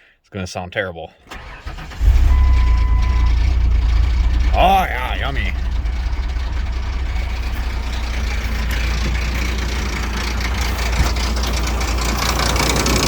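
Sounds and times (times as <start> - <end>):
car engine idling: 1.3 - 13.0.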